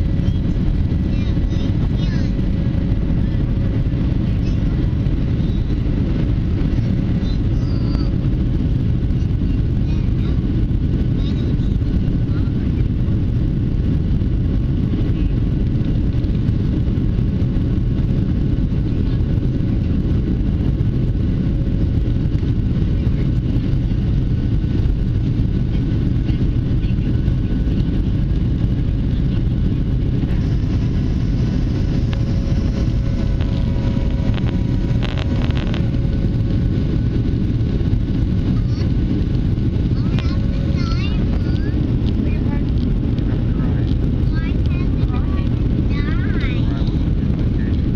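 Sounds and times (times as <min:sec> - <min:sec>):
jet engines roaring: 0:00.0 - 0:47.9
rushing air: 0:00.0 - 0:47.9.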